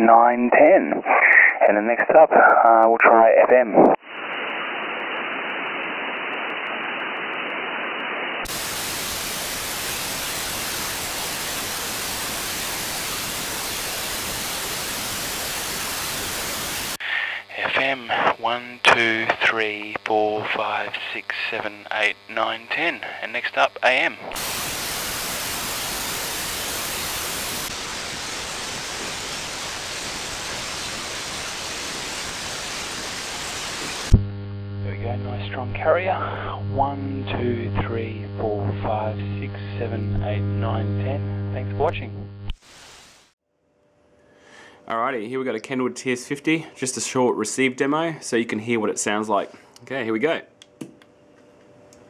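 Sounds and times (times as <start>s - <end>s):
radio static hiss: 0.0s - 43.4s, 44.9s - 50.5s.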